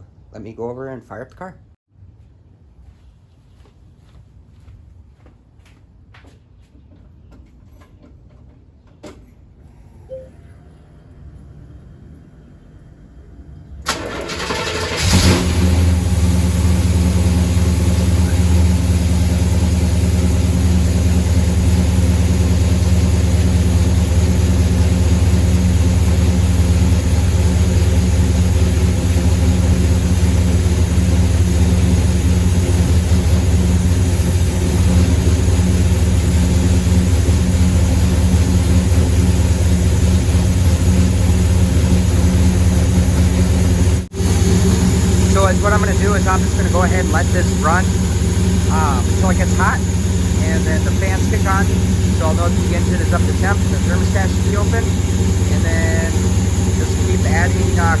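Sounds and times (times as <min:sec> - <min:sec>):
car engine running: 0:09.6 - 0:58.0
starter motor cranking: 0:09.6 - 0:58.0.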